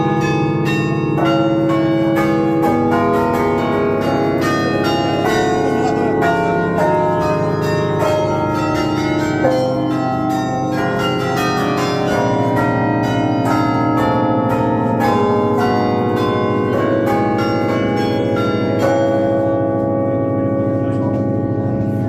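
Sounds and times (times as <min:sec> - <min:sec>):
carillon bells playing melody: 0:00.0 - 0:22.0.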